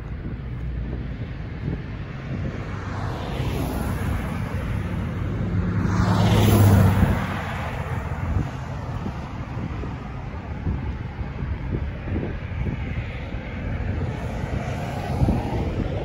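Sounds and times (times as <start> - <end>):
car passing by: 0.6 - 16.0.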